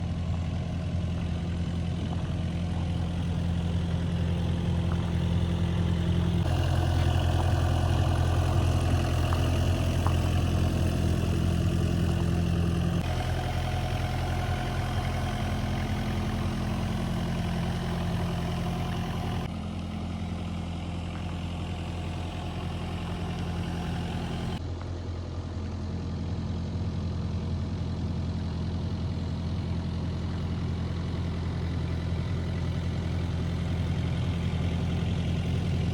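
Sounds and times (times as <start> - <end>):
excavator diesel engine idling: 0.0 - 35.9.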